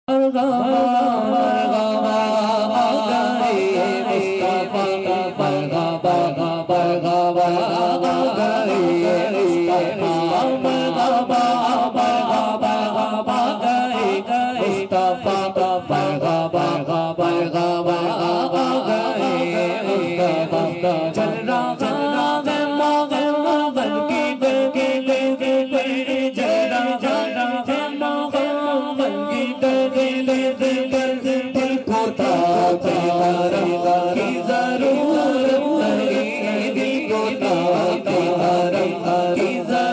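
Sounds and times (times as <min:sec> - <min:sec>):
man singing through pa system: 0:00.0 - 0:39.9.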